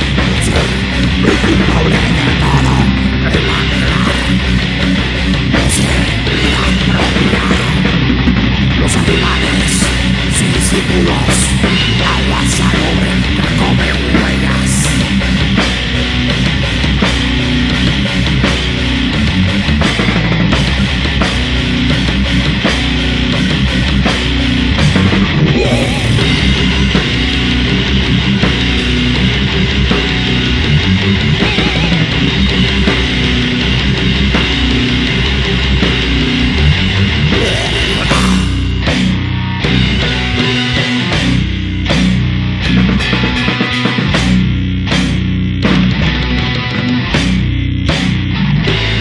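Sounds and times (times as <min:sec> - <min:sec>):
grindcore band playing: 0:00.0 - 0:49.0.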